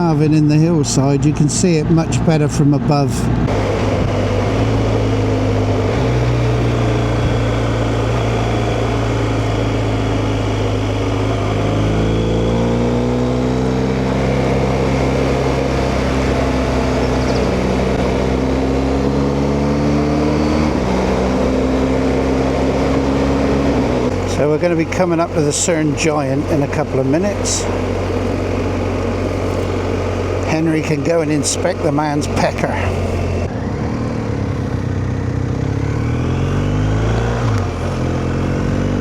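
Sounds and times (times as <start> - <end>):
motorcycle engine running: 0.0 - 39.0
road noise: 0.0 - 39.0.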